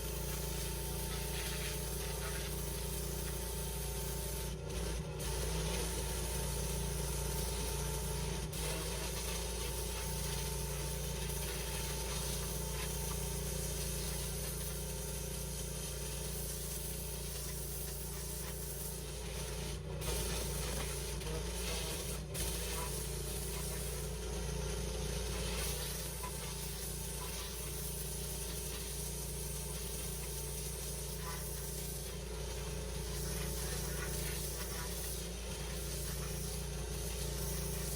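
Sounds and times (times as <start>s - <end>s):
pressure washer jet hissing: 0.0s - 37.9s.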